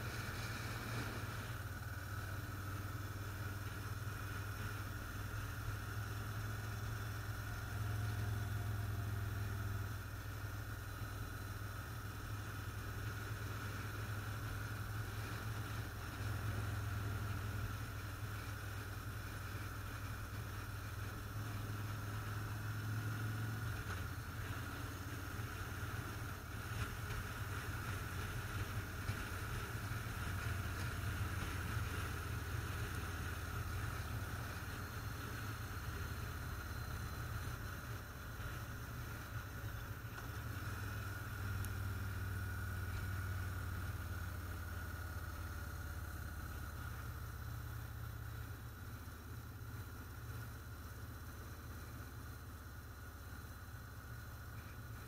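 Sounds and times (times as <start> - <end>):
motorcycle engine cruising: 0.0 - 50.5
road and wind noise: 0.0 - 55.0.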